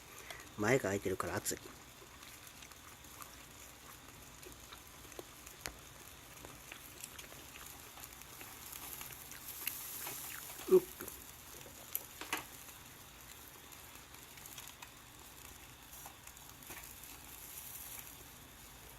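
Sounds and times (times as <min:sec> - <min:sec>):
meat sizzling over fire: 0:00.0 - 0:18.9.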